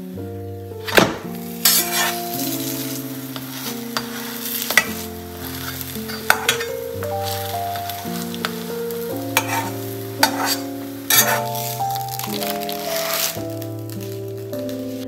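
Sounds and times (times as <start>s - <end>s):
soft background music: 0.0s - 15.0s
metal spatula scraping a pan: 0.8s - 13.6s
flatbread sizzling in a frying pan: 0.8s - 15.0s.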